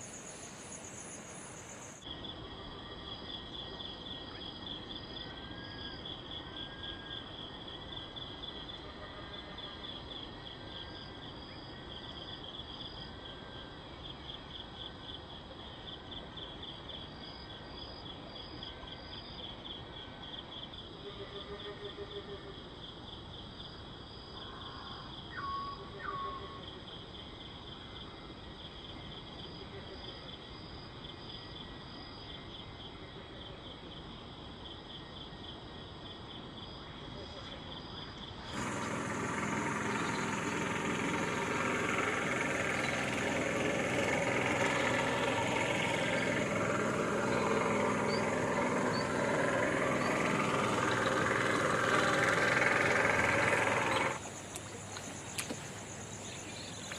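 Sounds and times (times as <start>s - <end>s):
crickets chirping: 0.0s - 56.9s
insects or frogs calling: 0.0s - 56.9s.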